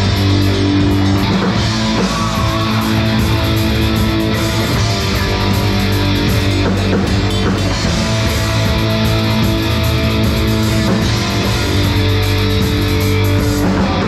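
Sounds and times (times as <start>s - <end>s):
drum kit: 0.0s - 14.0s
guitars: 0.0s - 14.0s.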